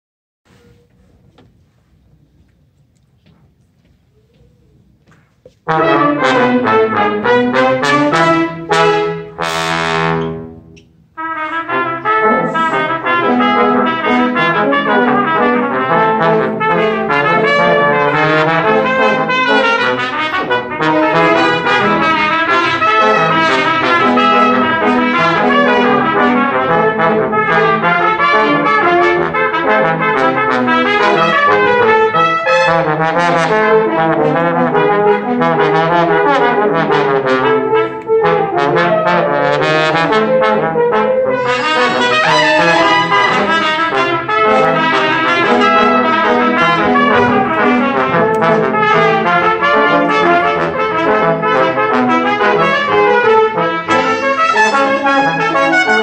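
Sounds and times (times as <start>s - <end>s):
brass quartet playing lively tune: 5.5s - 56.0s.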